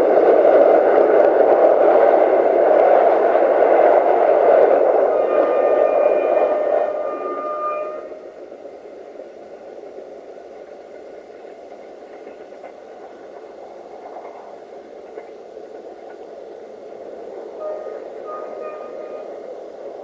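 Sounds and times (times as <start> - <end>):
diesel train rumbling: 0.0 - 20.0.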